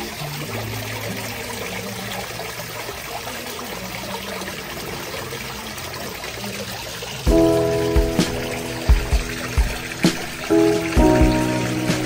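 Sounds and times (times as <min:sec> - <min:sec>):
water splashing down small waterfall: 0:00.0 - 0:12.0.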